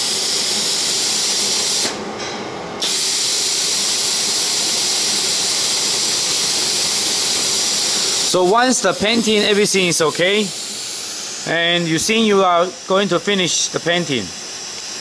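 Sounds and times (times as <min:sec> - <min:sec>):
spray gun hissing: 0:02.8 - 0:15.0.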